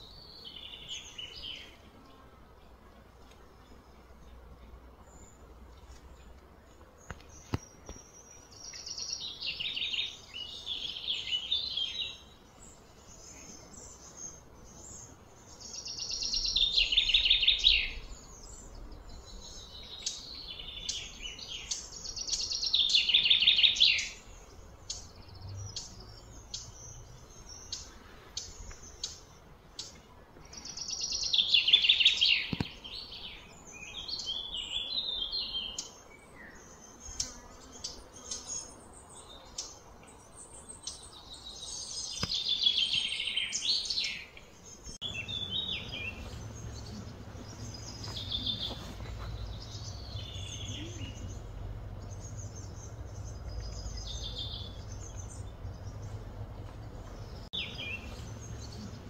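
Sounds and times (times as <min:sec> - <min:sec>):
bird singing: 0:00.0 - 0:02.3, 0:03.6 - 0:59.0.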